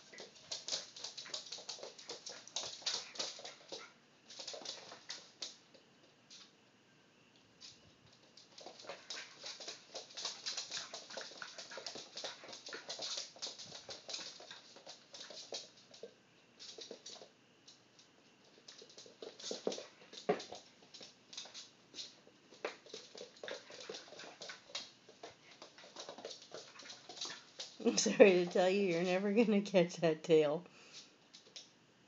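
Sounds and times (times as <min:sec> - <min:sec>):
dog claws clicking on wooden floor: 0:00.0 - 0:06.5, 0:07.6 - 0:29.2.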